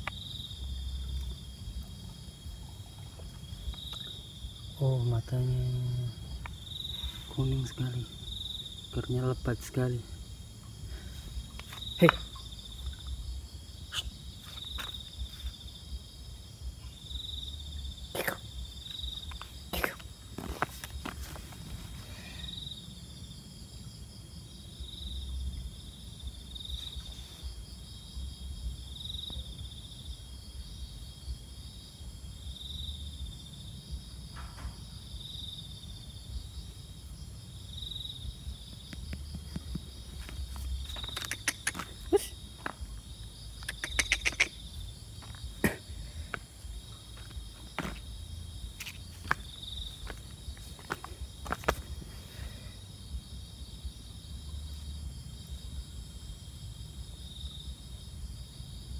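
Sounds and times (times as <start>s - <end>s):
insects trilling: 0.0s - 58.9s
loud insect chirping pulse: 0.0s - 58.9s.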